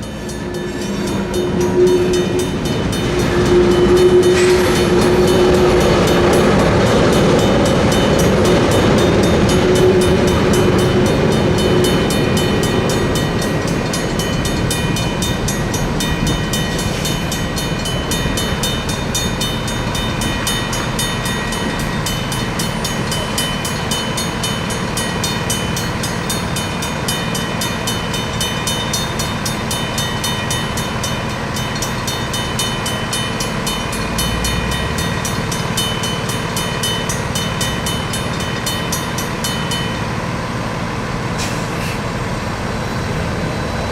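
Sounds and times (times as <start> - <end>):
crossing bells ringing rapidly: 0.0 - 41.3
freight train cars rolling: 0.0 - 43.9.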